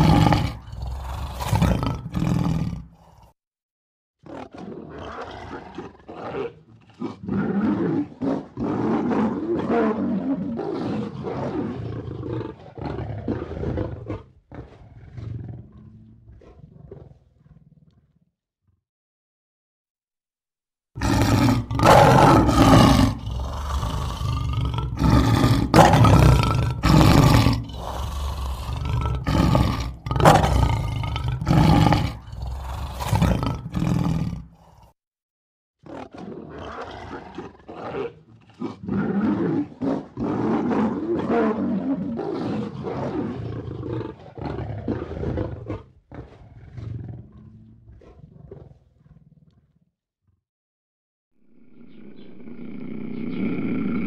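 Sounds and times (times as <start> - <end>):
lion roaring: 0.0 - 3.3, 4.2 - 18.1, 21.0 - 34.9, 35.8 - 49.8, 51.4 - 54.0.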